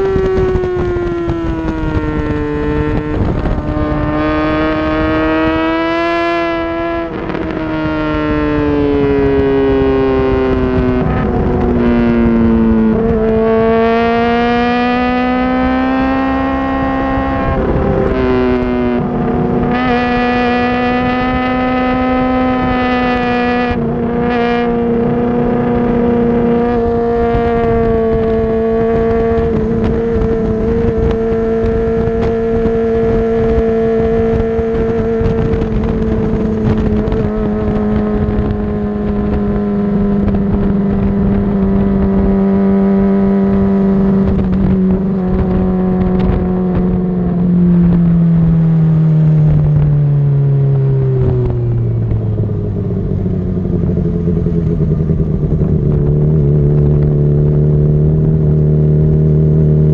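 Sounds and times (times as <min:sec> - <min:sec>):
motorcycle engine at speed: 0:00.0 - 0:59.9
wind rush on microphone: 0:00.0 - 0:59.9.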